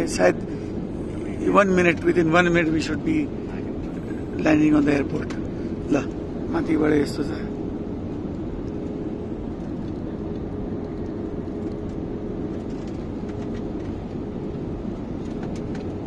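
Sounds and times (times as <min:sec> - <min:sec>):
cabin hum: 0:00.0 - 0:16.0
jet engines and airflow rushing: 0:00.0 - 0:16.0.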